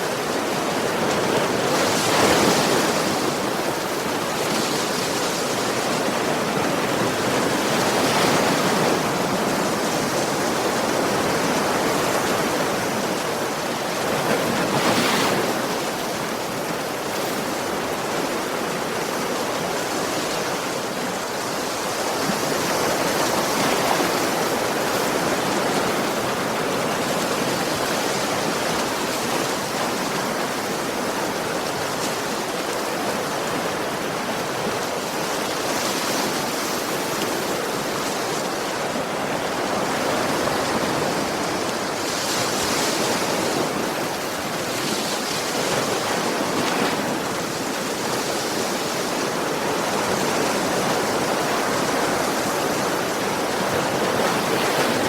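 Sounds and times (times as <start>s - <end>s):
sea waves breaking on shore: 0.0s - 55.0s.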